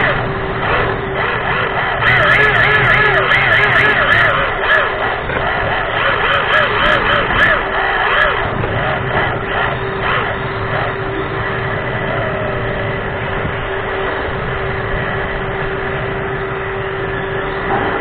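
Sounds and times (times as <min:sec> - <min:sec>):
toy car motor whine: 0:00.0 - 0:18.0.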